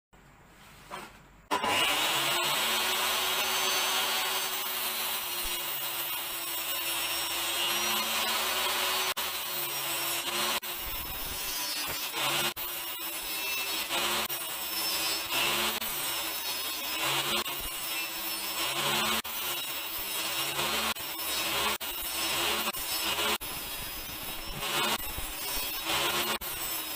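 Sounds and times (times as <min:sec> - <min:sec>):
table saw cutting wood: 0:00.9 - 0:26.9.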